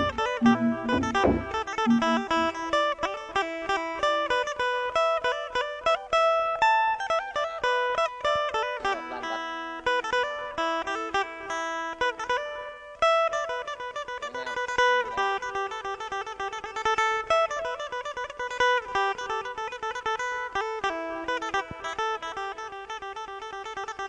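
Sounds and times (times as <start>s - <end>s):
plucked string instrument music: 0.0s - 24.0s.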